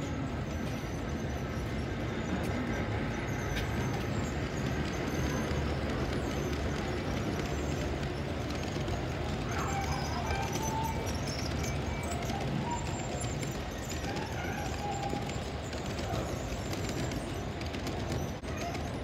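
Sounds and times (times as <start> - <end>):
model train rumbling on track: 0.0 - 19.0.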